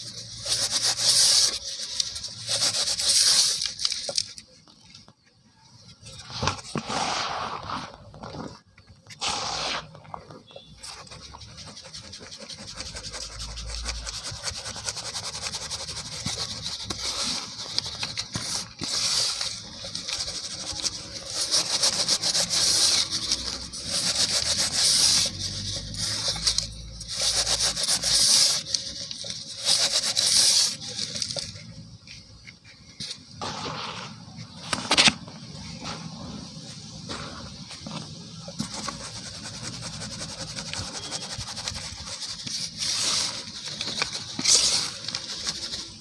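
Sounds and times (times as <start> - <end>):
cement powder sifted through fingers: 0.0 - 4.7, 6.1 - 31.9, 33.0 - 46.0.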